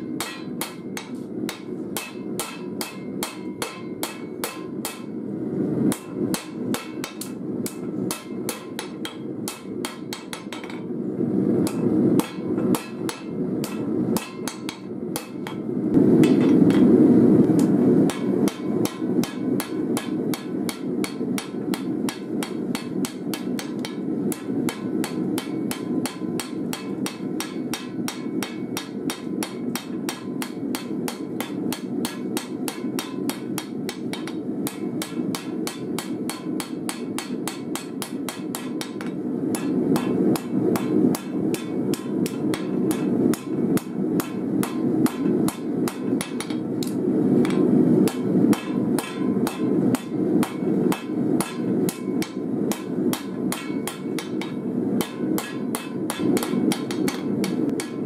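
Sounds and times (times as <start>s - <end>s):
hammer striking steel on anvil: 0.0s - 5.2s, 5.9s - 10.9s, 11.6s - 16.9s, 17.5s - 58.0s.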